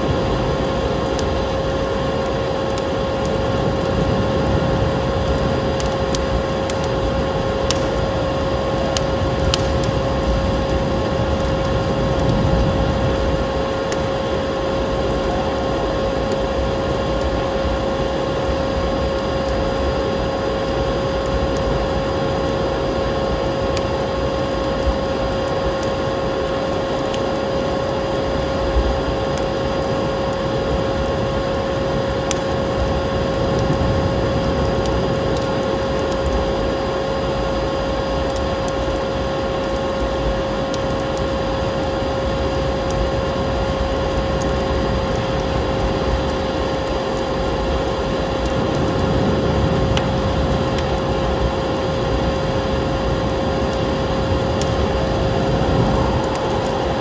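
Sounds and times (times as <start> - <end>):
constant even hum: 0.0 - 57.0
wood fire crackling: 0.0 - 57.0.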